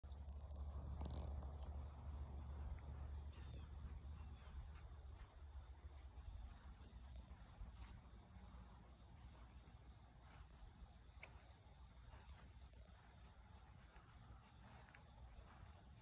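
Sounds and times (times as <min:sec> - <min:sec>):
insect chorus trilling: 0:00.1 - 0:16.0.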